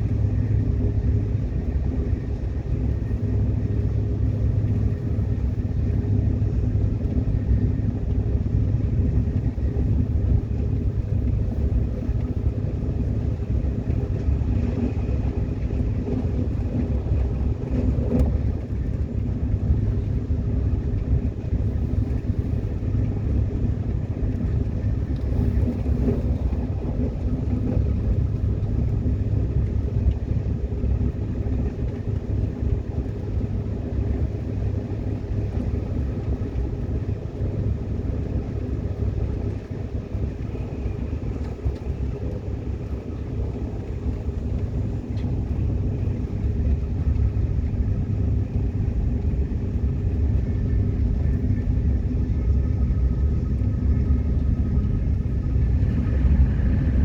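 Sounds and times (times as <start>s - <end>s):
faint humming tones: 0.0s - 57.0s
subway train rumbling: 0.0s - 57.0s.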